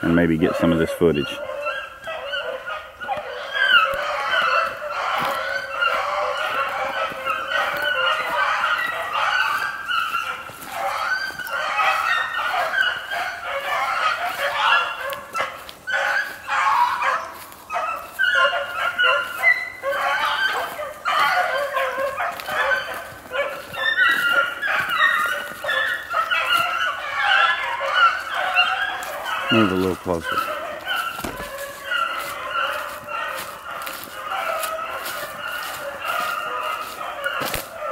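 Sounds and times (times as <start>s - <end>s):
beagles baying: 0.0s - 37.9s.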